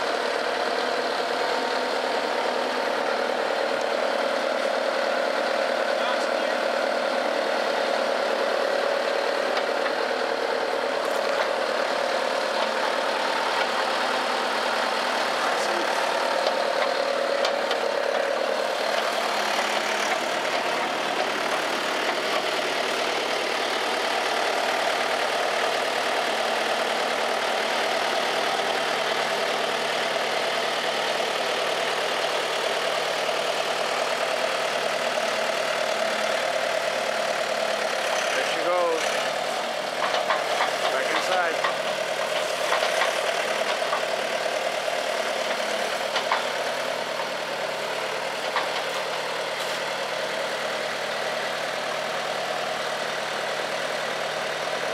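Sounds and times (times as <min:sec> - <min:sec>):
vehicle engine idling: 0:00.0 - 0:54.9.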